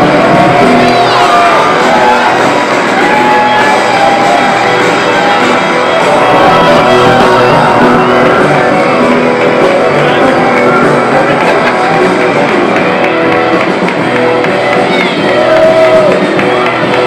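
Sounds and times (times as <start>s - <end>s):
loud wrestling entrance music: 0.0s - 17.0s.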